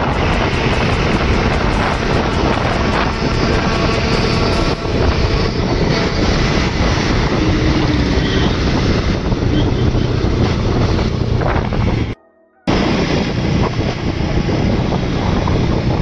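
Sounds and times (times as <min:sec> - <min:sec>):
motorcycle engine: 0:00.0 - 0:16.0
road noise: 0:00.0 - 0:16.0
wind rushing over microphone: 0:00.0 - 0:16.0.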